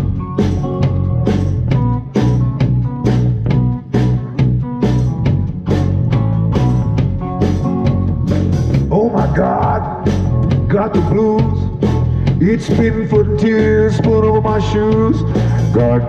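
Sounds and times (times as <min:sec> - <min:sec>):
drum kit beat: 0:00.0 - 0:16.0
upright bass: 0:00.0 - 0:16.0.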